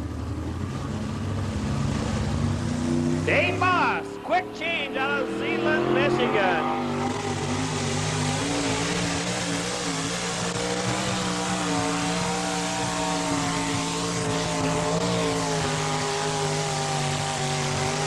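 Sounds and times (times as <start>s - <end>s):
truck engine at full throttle: 0.0s - 18.0s.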